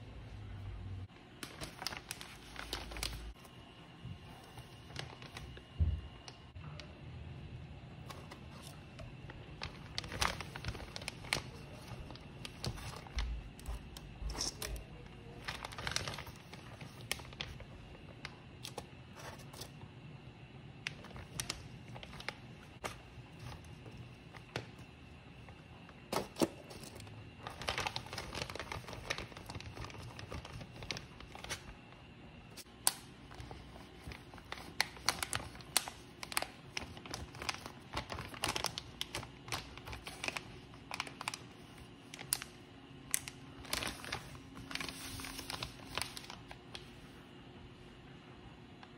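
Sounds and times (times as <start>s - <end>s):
plastic bag crinkling: 1.3s - 3.4s, 4.4s - 5.8s, 8.1s - 19.8s, 20.8s - 31.9s, 32.5s - 47.0s.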